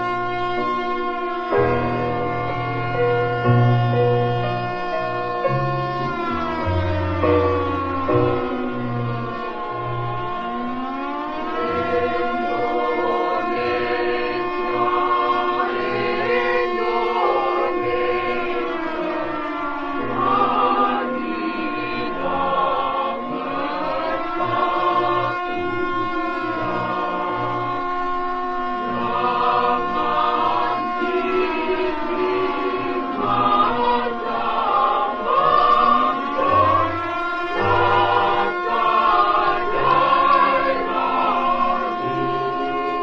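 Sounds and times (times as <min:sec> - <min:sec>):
choir-like chord of held tones: 0:00.0 - 0:43.0
emergency alert alarm wail: 0:00.0 - 0:43.0
siren tones gliding: 0:00.0 - 0:43.0.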